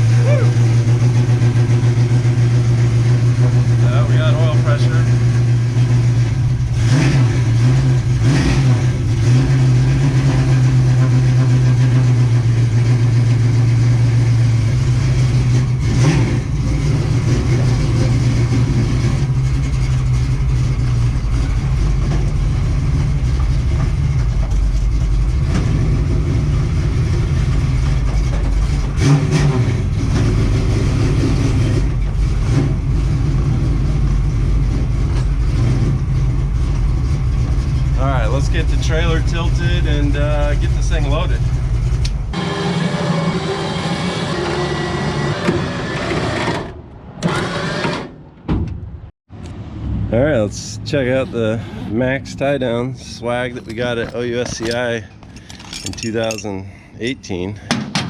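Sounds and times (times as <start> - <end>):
car engine running: 0.0 - 43.7, 49.4 - 57.5.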